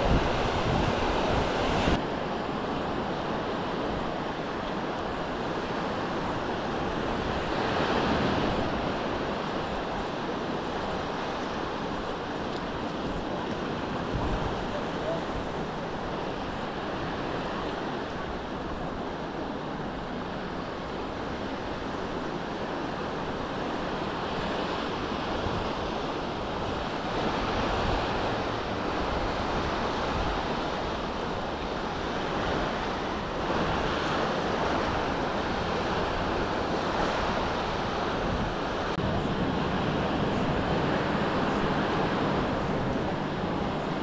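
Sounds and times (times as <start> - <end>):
waves washing on sandy beach: 0.0 - 44.0
wind rumble on microphone: 0.0 - 44.0.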